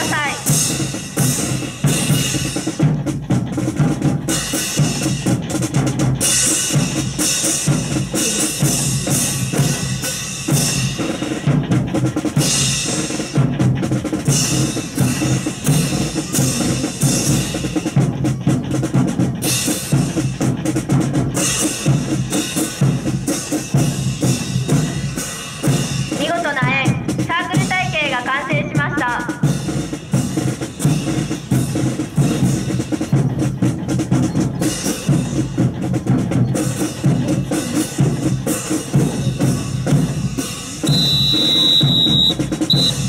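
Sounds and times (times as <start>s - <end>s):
marching snare and bass drums: 0.0s - 43.0s.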